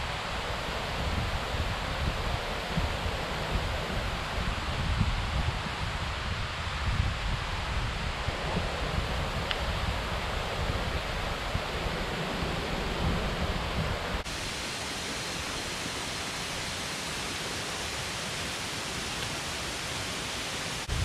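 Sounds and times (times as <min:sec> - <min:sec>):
stream and waterfall rushing: 0:00.0 - 0:21.0.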